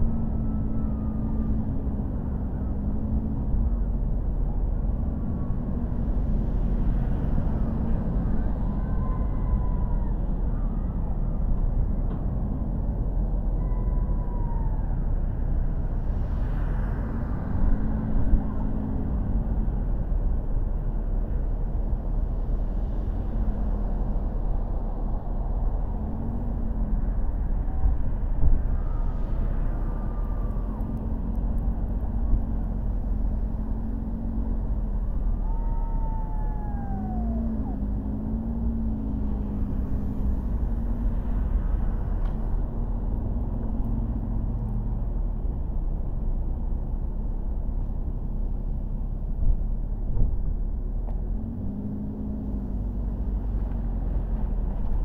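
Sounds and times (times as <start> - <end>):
car driving on city streets: 0.0 - 55.0.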